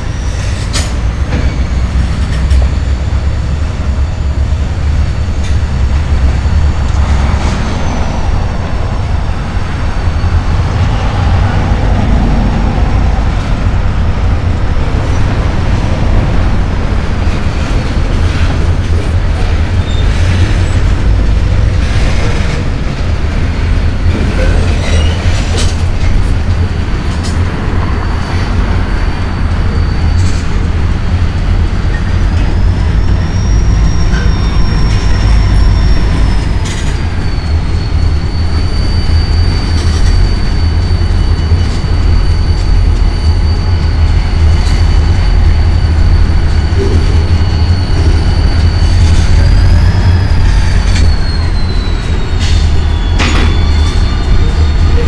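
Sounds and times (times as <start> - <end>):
freight train rumbling past: 0.0 - 55.0
high wheel squeal: 0.0 - 55.0.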